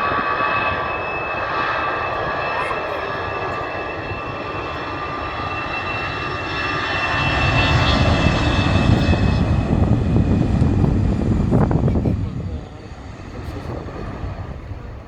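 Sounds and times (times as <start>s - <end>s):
jet engines passing: 0.0s - 15.0s.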